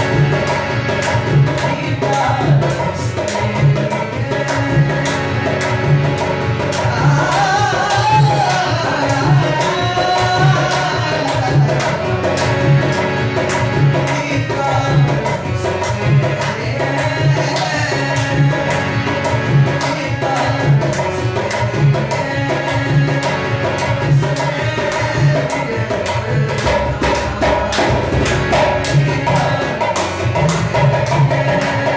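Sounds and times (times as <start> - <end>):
hand drum rhythm: 0.0 - 31.9
sustained instrumental melody: 0.0 - 31.9.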